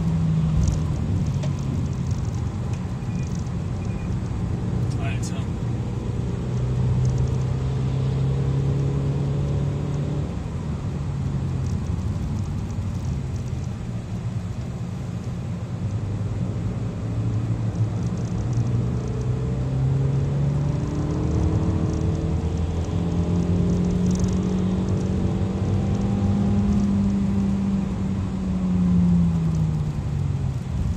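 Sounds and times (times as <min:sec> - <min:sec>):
car engine revving: 0:00.0 - 0:13.2, 0:16.0 - 0:30.9
tyre and road noise: 0:00.0 - 0:30.9.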